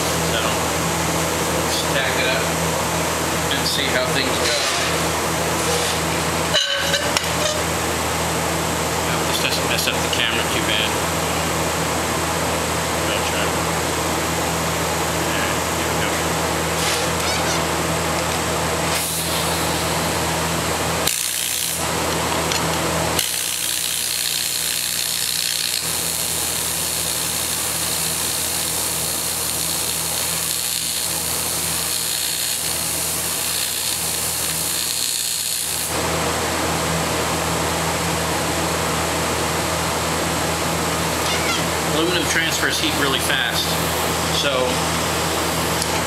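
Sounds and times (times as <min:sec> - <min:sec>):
welder hum: 0:00.0 - 0:46.0
welding arc buzzing: 0:00.0 - 0:46.0.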